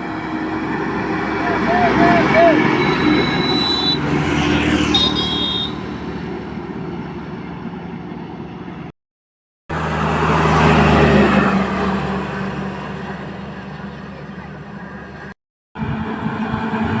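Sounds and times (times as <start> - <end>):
heavy vehicle engine: 0.0 - 8.9, 9.7 - 17.0
road traffic passing: 0.0 - 8.9, 9.7 - 17.0.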